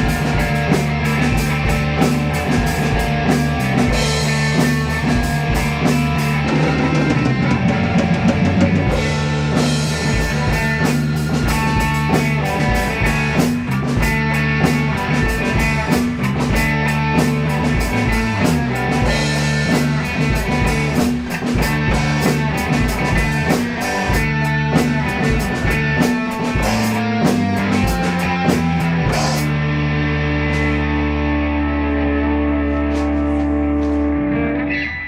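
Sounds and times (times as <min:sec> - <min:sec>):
drum kit: 0:00.0 - 0:34.5
bass line: 0:00.0 - 0:35.0
electric guitar: 0:00.0 - 0:35.0.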